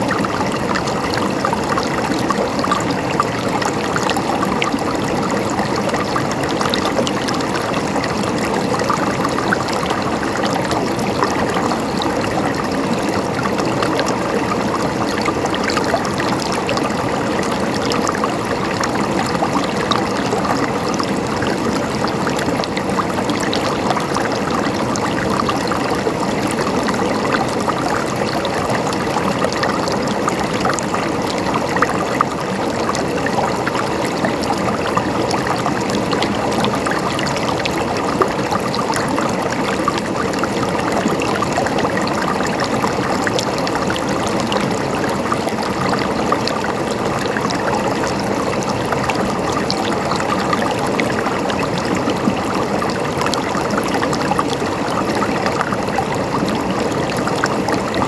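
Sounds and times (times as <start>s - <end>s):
stream water gurgling: 0.0s - 58.0s.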